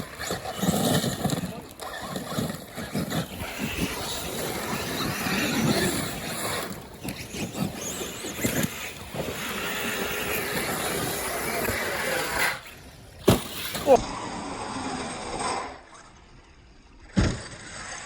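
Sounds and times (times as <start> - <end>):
electric motors whining: 0.0 - 16.5.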